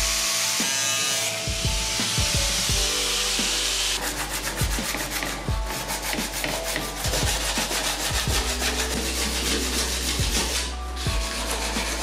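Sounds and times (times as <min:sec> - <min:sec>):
sandpaper rubbing fiberglass: 0:02.0 - 0:12.0.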